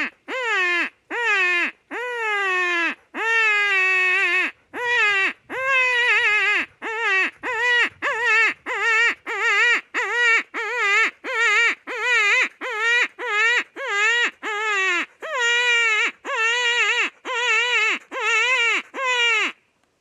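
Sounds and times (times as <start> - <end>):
predator call crying calls: 0.0 - 19.6.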